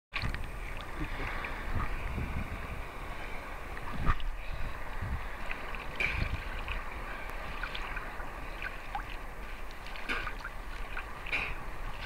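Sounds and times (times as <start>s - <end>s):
sea water sloshing and lapping: 0.2s - 12.0s
wind buffeting microphone: 0.2s - 12.0s.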